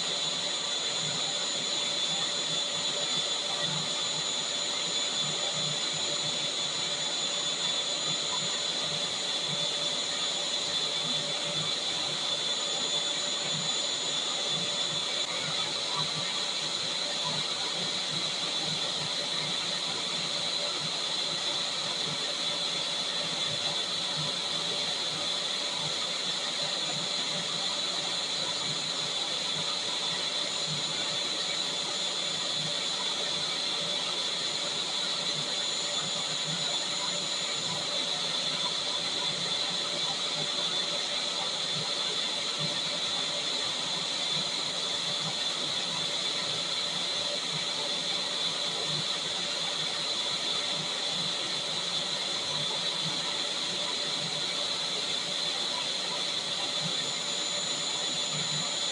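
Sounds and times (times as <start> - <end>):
vacuum cleaner motor running: 0.0 - 58.9.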